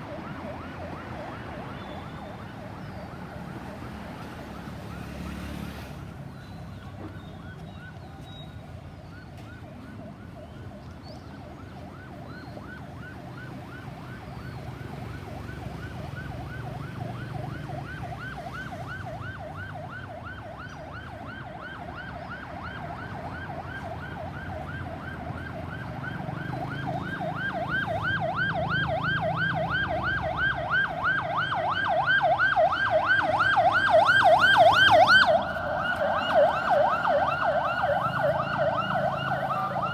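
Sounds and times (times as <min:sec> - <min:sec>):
ambulance siren yelping: 0:00.0 - 0:05.2, 0:11.3 - 0:39.9
low traffic rumble: 0:00.0 - 0:39.9.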